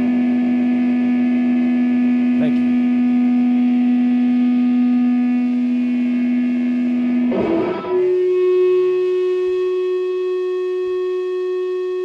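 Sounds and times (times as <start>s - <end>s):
electric guitar feedback: 0.0s - 12.0s.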